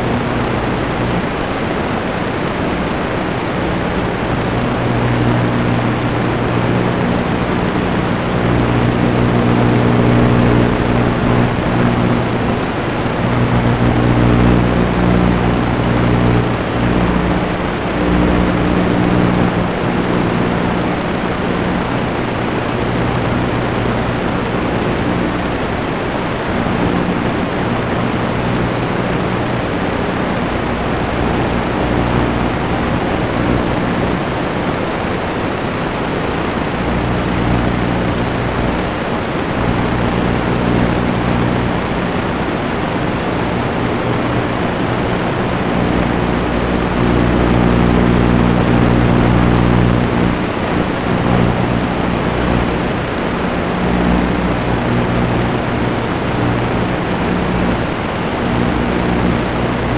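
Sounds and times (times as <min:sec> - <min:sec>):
loud static hiss: 0:00.0 - 0:59.9
low multi-pitched hum: 0:00.0 - 0:59.9.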